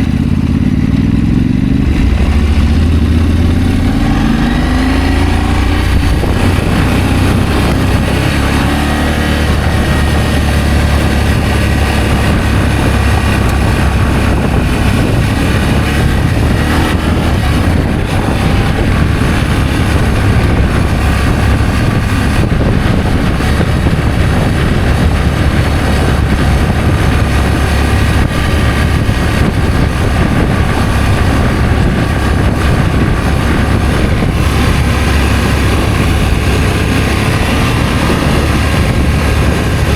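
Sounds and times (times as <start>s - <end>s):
motorcycle engine rumble: 0.0s - 39.9s
rush of noise: 0.0s - 39.9s.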